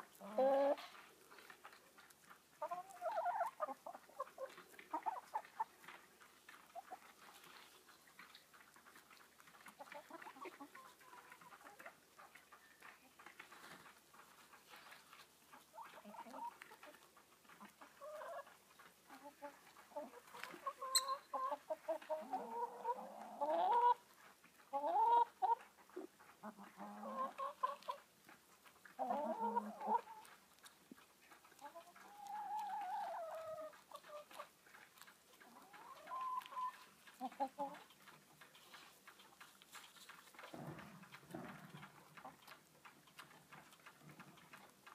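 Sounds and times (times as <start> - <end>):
hens clucking: 0.0 - 44.9.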